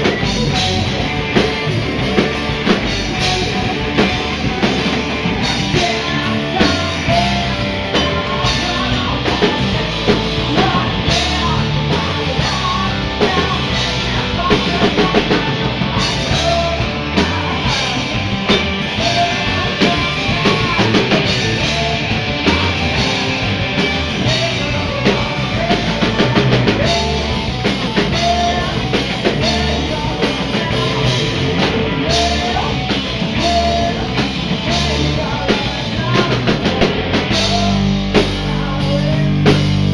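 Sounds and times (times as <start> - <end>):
man singing: 0.0 - 39.9
rock band playing: 0.0 - 39.9.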